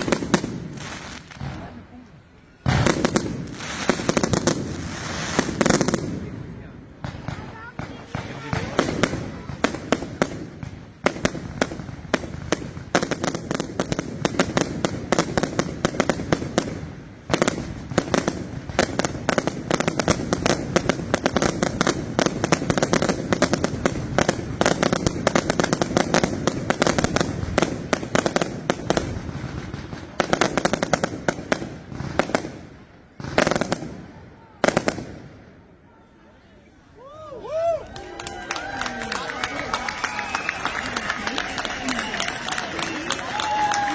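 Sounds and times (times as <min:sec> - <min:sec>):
fireworks bangs and crackling: 0:00.0 - 0:35.7, 0:38.2 - 0:43.9.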